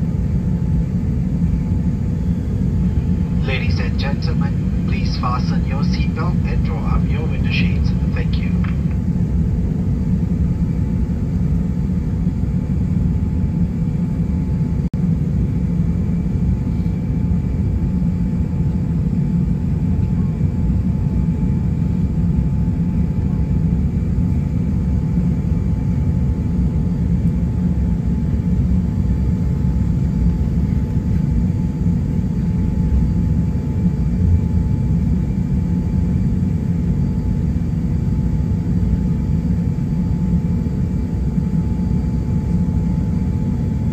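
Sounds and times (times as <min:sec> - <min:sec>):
aircraft cabin rumble: 0:00.0 - 0:43.9.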